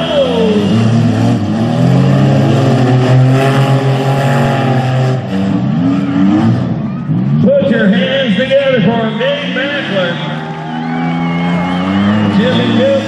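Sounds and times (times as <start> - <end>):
car engines running: 0.0 - 13.0
engine revving up: 0.0 - 13.0.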